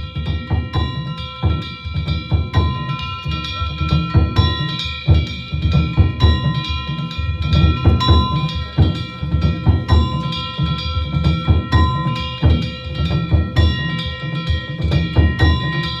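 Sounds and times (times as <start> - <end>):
metal hand gongs ringing: 0.0 - 16.0
taiko drums beating: 0.0 - 16.0.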